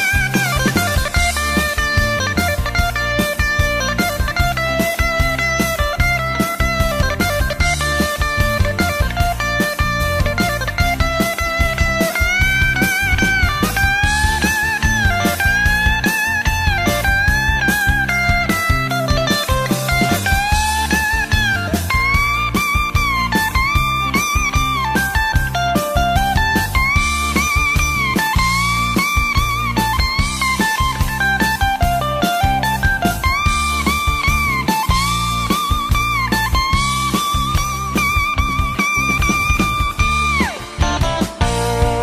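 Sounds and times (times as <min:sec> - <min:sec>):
bluesy electric guitar melody: 0:00.0 - 0:42.0
steady drum beat: 0:00.0 - 0:42.0.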